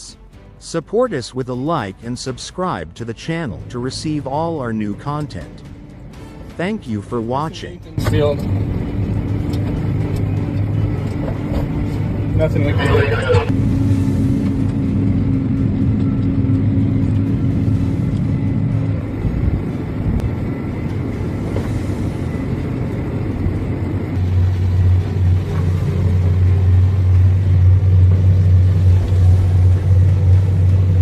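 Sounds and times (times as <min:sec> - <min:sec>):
vehicle engine low rumbling drone: 0:00.0 - 0:31.0.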